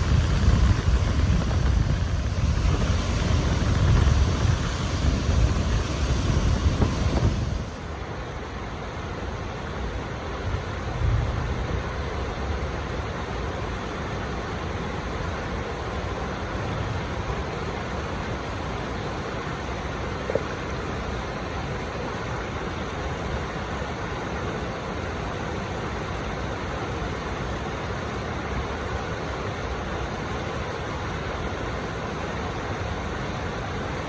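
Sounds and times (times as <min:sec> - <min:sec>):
flowing water rushing: 0:00.0 - 0:34.0.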